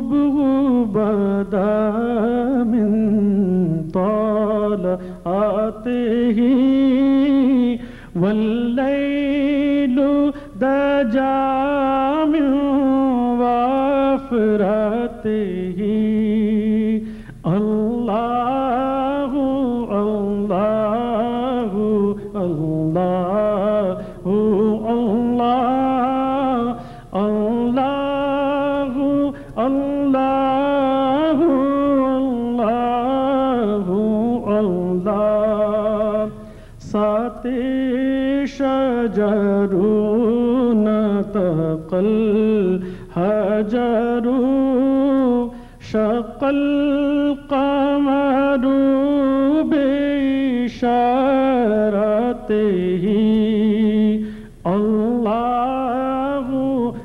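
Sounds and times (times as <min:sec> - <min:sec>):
man singing unaccompanied: 0:00.0 - 0:57.0.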